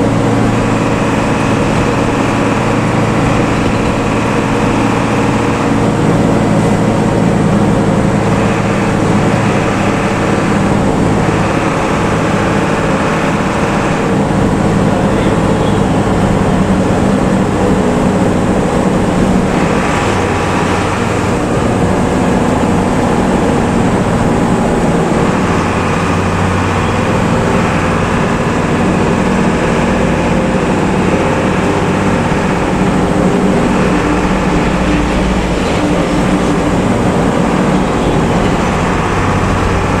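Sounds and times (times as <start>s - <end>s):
bus diesel engine snoring: 0.0s - 40.0s
tyre and road noise: 0.0s - 40.0s.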